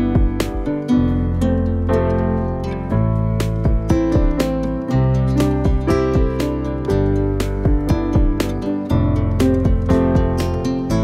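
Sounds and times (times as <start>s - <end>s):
plucked strings: 0.0s - 11.0s.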